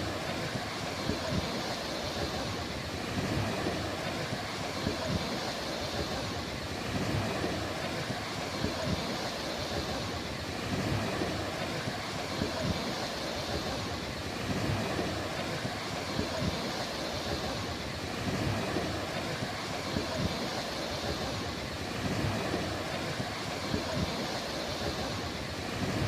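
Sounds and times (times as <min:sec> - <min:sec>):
ocean surf washing ashore: 0:00.0 - 0:26.0.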